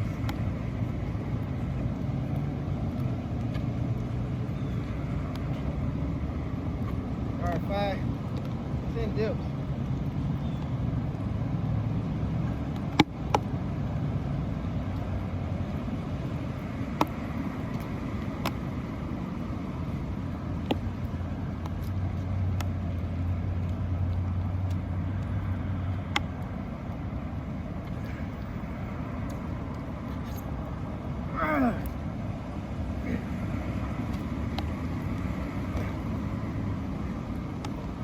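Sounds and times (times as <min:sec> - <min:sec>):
low outdoor rumble: 0:00.0 - 0:38.0.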